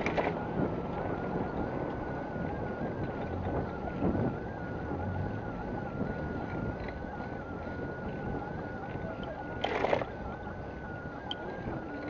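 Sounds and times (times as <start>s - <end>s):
bicycle rumble on pavement: 0.0s - 12.0s
wind on microphone: 0.0s - 12.0s.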